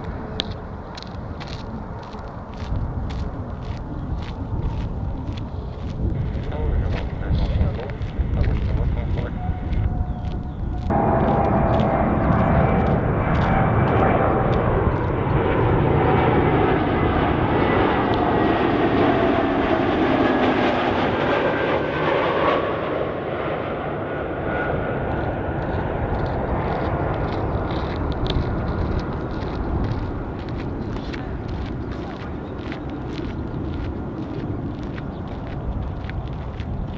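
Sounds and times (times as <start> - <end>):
jet airliner passing: 0.0 - 36.9.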